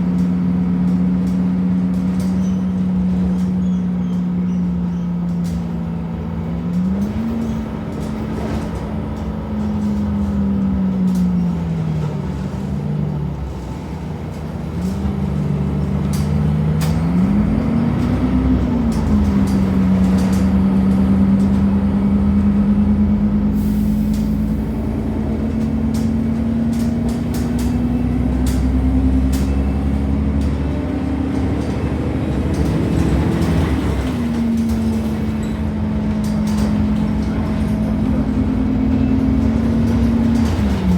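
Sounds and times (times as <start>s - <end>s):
bus engine whining: 0.0s - 40.9s.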